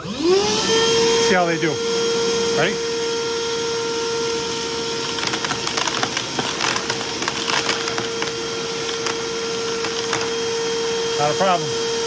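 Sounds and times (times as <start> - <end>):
shop vacuum whining: 0.0 - 12.0.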